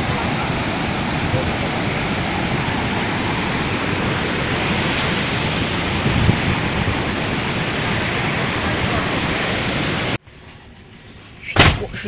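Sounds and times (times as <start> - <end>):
waterfall rushing: 0.0 - 10.2
wind buffeting microphone: 0.0 - 10.2.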